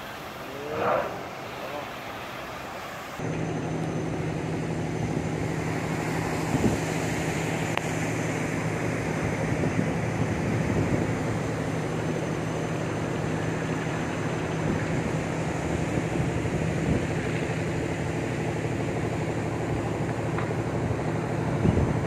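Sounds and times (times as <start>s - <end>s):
constant rushing noise: 0.0s - 22.0s
ship engine humming: 0.0s - 22.0s.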